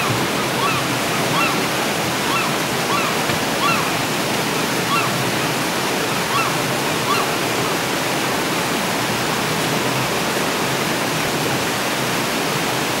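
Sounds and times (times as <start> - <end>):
river running over rocks: 0.0 - 13.0.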